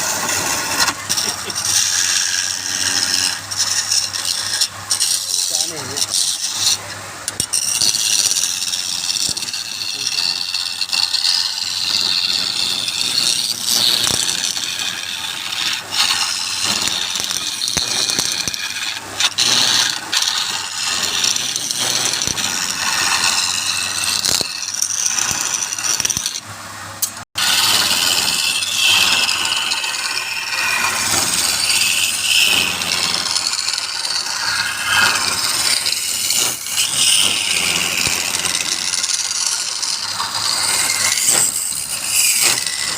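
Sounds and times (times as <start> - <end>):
wood lathe turning tool scraping: 0.0 - 42.9.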